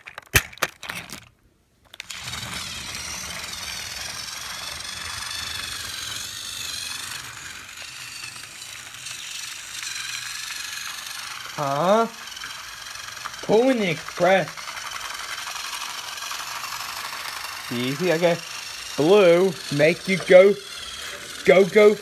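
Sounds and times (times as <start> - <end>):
toy train motor whirring: 0.0 - 22.0.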